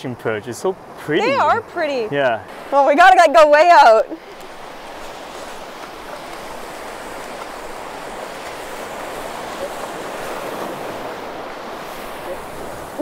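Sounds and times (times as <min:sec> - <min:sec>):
ocean surf breaking on beach: 0:00.8 - 0:13.0.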